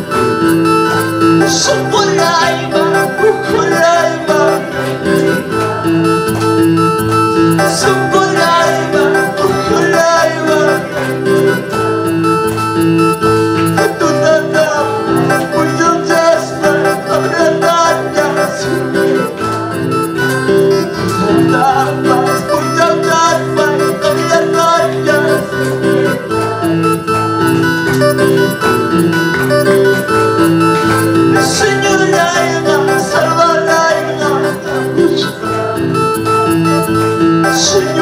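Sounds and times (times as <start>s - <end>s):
man singing into microphone: 0.0s - 6.3s, 7.5s - 11.7s, 13.6s - 20.0s, 20.7s - 27.6s, 31.0s - 38.0s
electronic keyboard chords: 0.0s - 38.0s.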